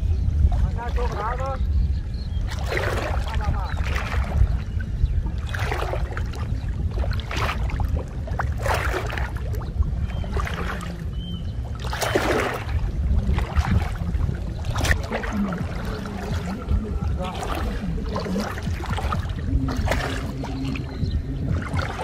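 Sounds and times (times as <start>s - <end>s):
steady low rumble: 0.0s - 22.0s
wading through muddy water: 0.0s - 22.0s.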